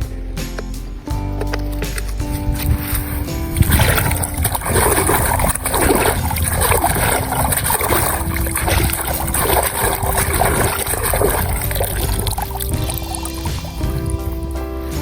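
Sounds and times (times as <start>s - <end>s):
faint background music: 0.0s - 15.0s
water sloshing and splashing: 1.6s - 15.0s.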